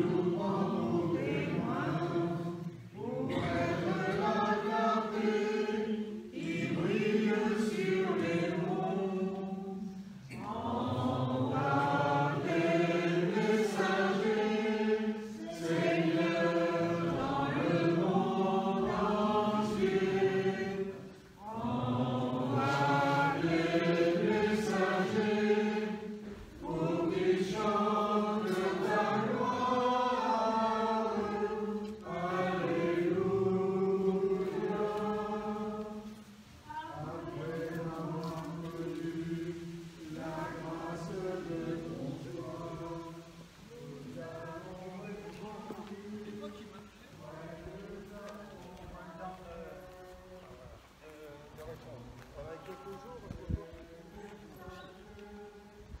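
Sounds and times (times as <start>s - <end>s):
group singing a chant: 0.0s - 56.0s.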